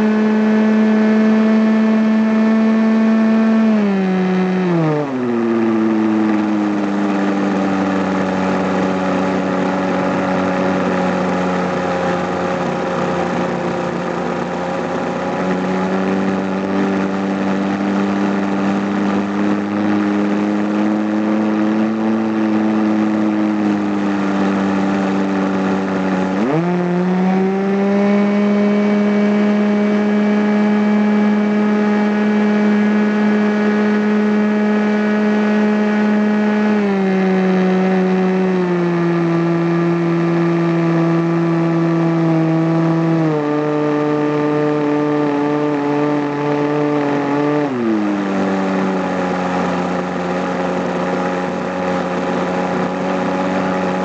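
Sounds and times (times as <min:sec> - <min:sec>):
model airplane engine: 0:00.0 - 0:54.0.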